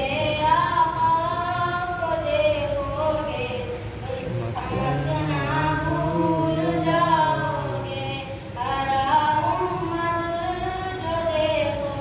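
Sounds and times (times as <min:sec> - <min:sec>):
boy singing devotional song: 0:00.0 - 0:12.0.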